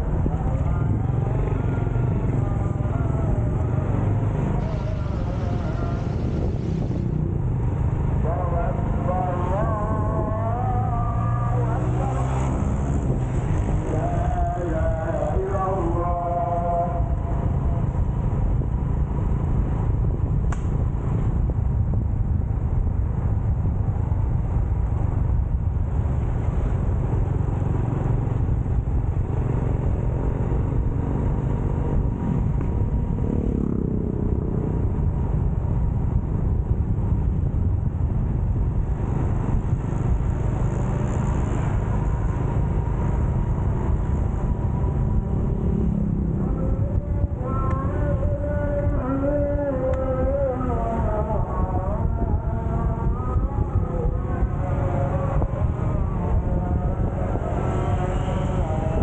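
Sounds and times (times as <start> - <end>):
motorcycle engine and road noise: 0.0 - 59.0.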